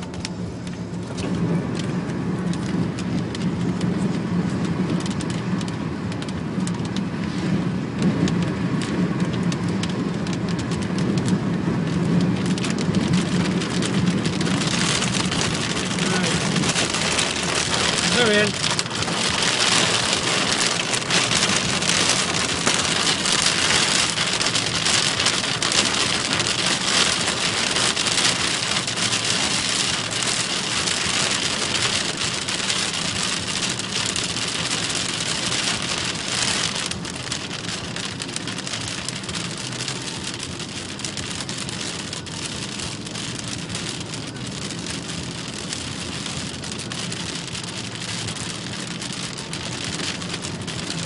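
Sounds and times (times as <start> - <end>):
car engine running: 0.0 - 51.0
heavy rain drumming on car roof: 0.0 - 51.0.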